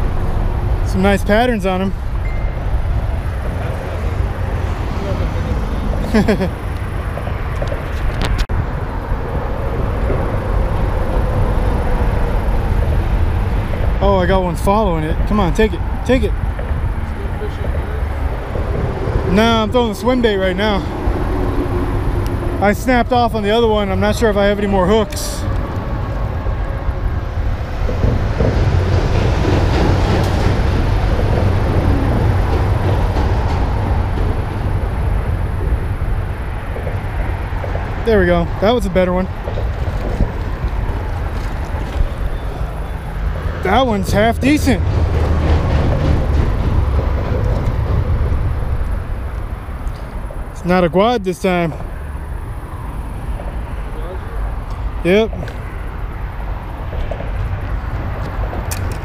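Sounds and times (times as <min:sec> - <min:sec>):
highway traffic noise: 0:00.0 - 0:59.0.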